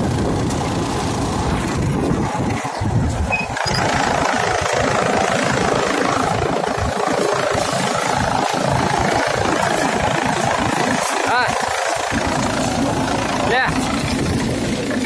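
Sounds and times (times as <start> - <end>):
chaff cutter chopping dry stalks: 0.0 - 15.0
diesel tractor running under load: 0.0 - 15.0.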